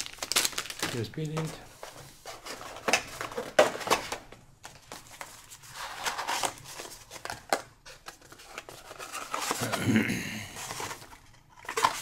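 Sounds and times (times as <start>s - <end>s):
packaging rustling and crinkling: 0.0s - 9.9s, 10.5s - 12.0s.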